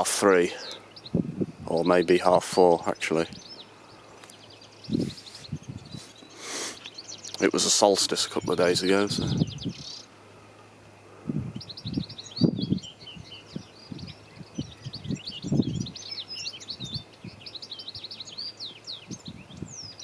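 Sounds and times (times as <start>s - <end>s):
finches twittering: 0.0s - 10.2s, 11.4s - 20.0s.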